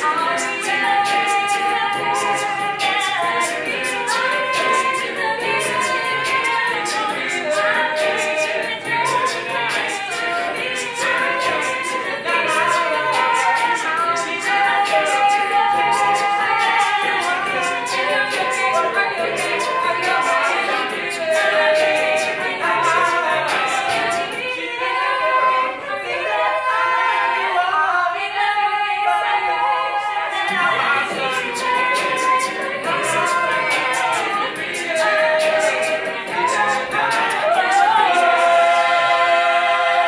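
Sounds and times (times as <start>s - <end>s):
a cappella group singing: 0.0s - 40.0s
rhythmic vocal beat: 0.0s - 40.0s.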